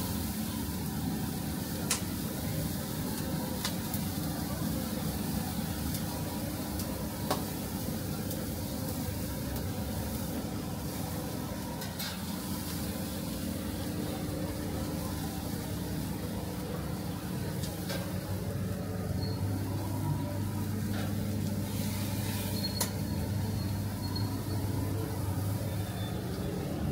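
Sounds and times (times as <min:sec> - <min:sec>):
chicken sizzling on a grill: 0:00.0 - 0:26.9.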